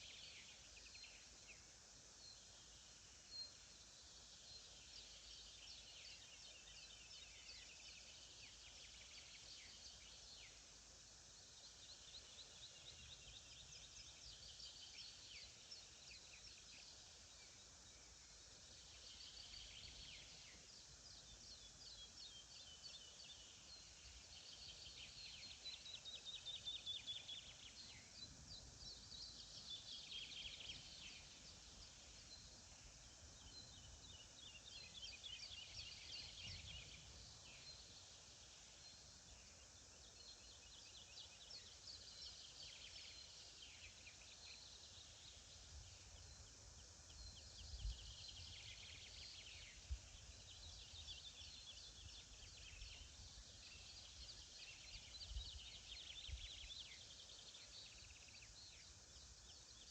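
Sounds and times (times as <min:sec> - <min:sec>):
faint songbirds singing: 0:00.0 - 0:59.9
low outdoor hiss: 0:00.0 - 0:59.9.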